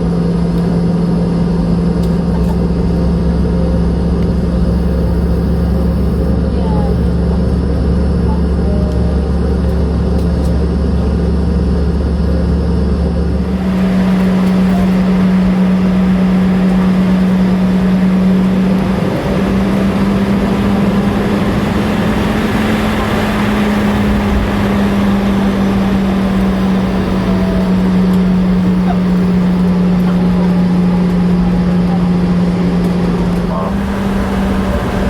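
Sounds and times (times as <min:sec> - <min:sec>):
deep hum: 0:00.0 - 0:35.0
jet engines idling: 0:00.0 - 0:35.0.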